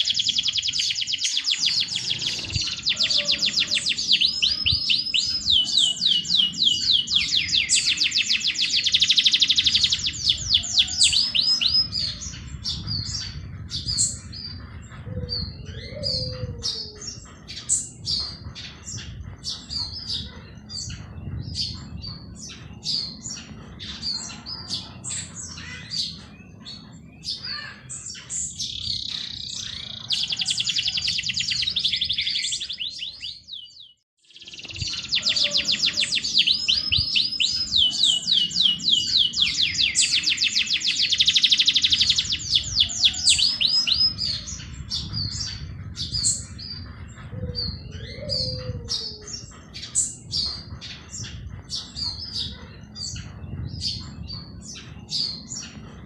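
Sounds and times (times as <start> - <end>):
rattling bird trills: 0.0 - 33.3, 34.3 - 56.0
songbirds chirping: 0.0 - 56.0.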